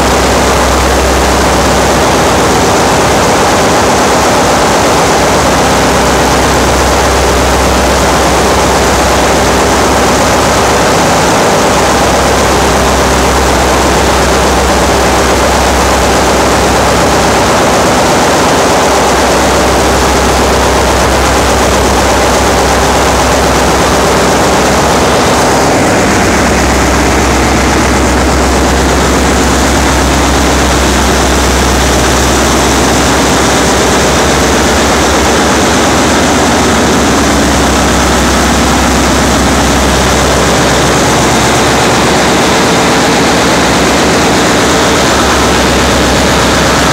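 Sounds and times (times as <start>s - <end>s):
deep hum: 0.0s - 46.9s
engine room machinery din: 0.0s - 46.9s.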